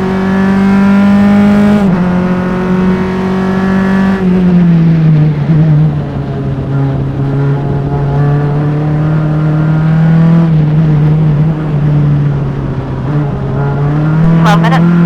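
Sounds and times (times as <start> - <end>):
race car engine revving high: 0.0 - 15.0.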